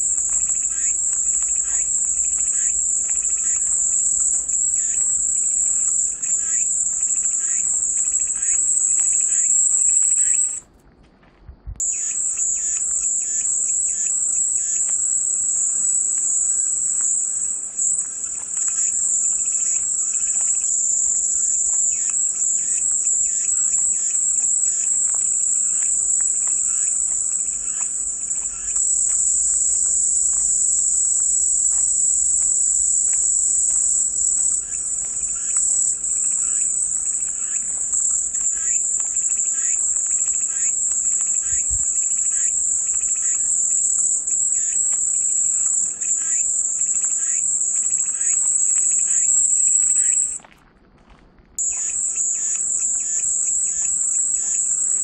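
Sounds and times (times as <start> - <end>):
cicadas singing: 0.0 - 10.6, 11.8 - 50.5, 51.6 - 55.0.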